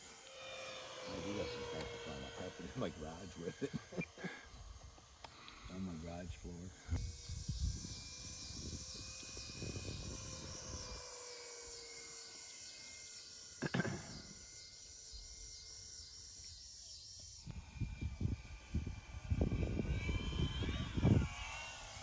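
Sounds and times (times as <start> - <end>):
distant model airplane engine: 0.0 - 22.0.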